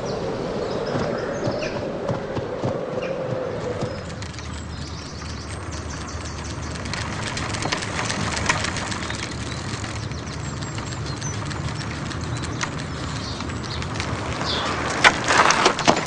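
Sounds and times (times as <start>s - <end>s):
bicycle chain and wheels clicking: 2.7s - 16.0s.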